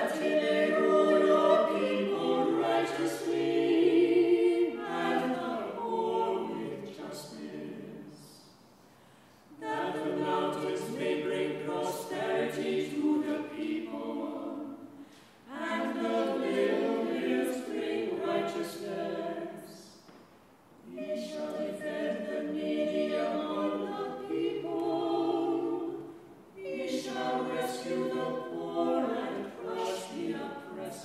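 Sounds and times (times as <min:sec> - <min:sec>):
unaccompanied choir chanting: 0:00.0 - 0:08.4, 0:09.6 - 0:14.9, 0:15.5 - 0:20.0, 0:20.8 - 0:31.0.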